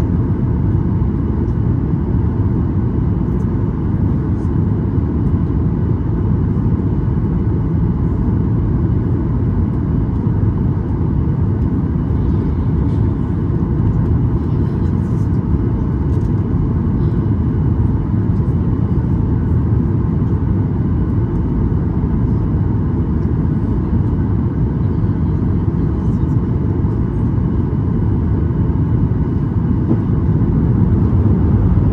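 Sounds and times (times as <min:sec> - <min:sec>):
airplane cabin roar: 0:00.0 - 0:31.9.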